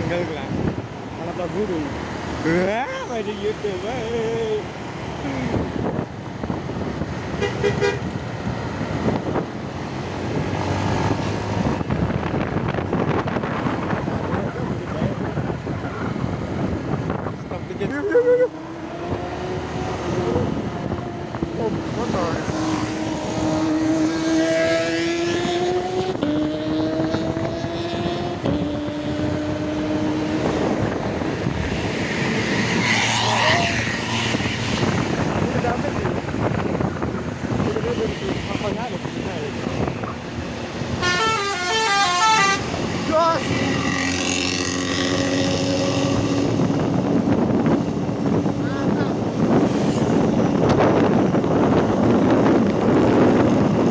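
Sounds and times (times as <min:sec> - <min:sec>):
road traffic engines: 0:00.0 - 0:53.9.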